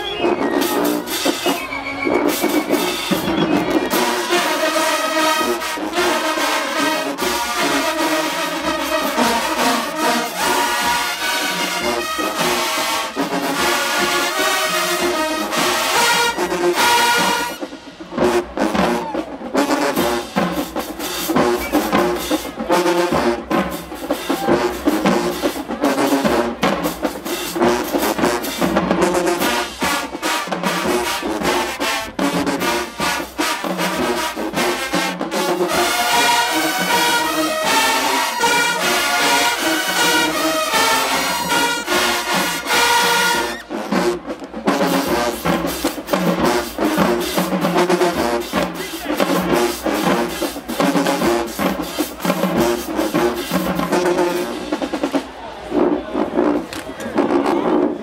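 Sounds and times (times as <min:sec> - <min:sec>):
marching band brass: 0:00.0 - 0:58.0
marching drums sharp hits: 0:00.2 - 0:58.0.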